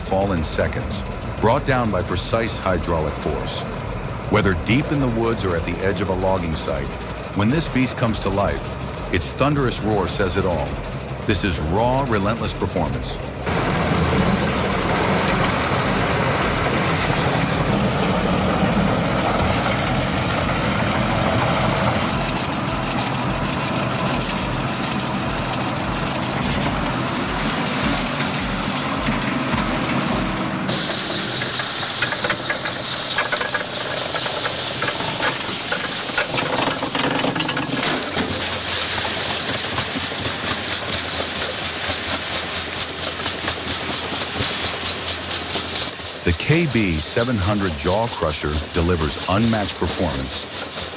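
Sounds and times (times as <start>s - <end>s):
harsh hissing grinding: 0.0s - 50.9s
industrial machine rumbling: 0.0s - 50.9s.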